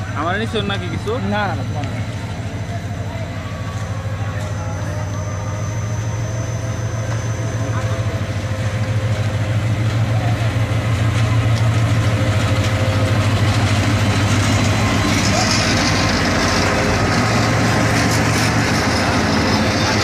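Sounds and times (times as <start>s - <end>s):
locomotive engine low drone: 0.0s - 20.0s.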